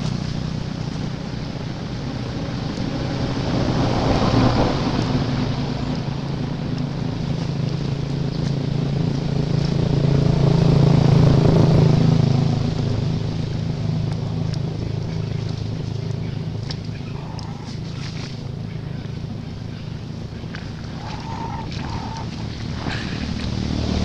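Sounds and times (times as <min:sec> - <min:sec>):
vehicle engine passing by: 0:00.0 - 0:24.0.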